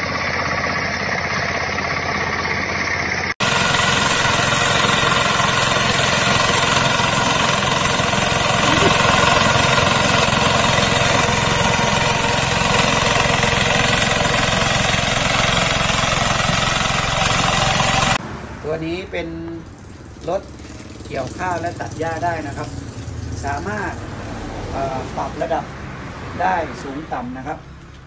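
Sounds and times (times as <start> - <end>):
small engine running: 0.0 - 18.2, 19.8 - 24.0.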